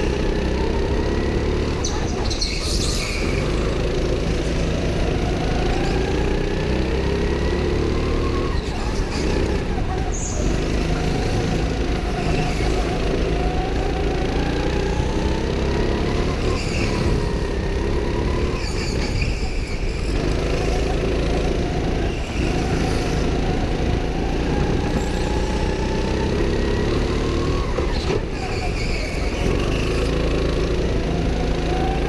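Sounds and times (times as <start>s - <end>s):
go-kart engine revving: 0.0s - 32.0s.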